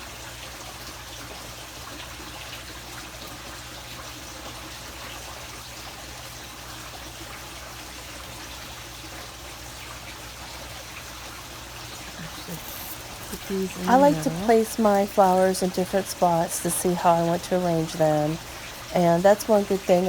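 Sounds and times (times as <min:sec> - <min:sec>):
running water trickling: 0:00.0 - 0:20.0.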